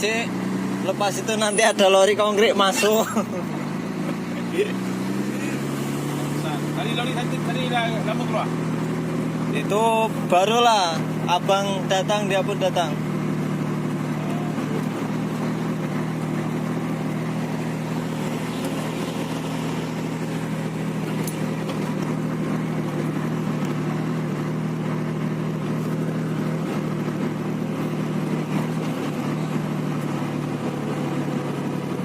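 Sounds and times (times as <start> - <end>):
truck diesel engine running: 0.0 - 32.0.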